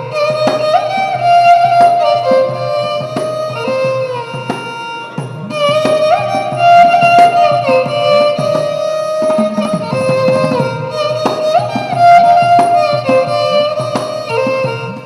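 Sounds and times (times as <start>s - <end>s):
hand drum strokes: 0.0s - 15.0s
violin melody with sliding ornaments: 0.0s - 15.0s.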